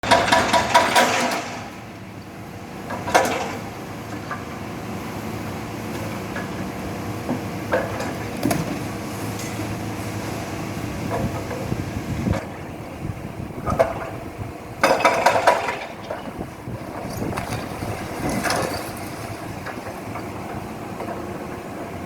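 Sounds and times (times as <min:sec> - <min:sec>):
heavy machinery engine hum: 0:00.0 - 0:22.0.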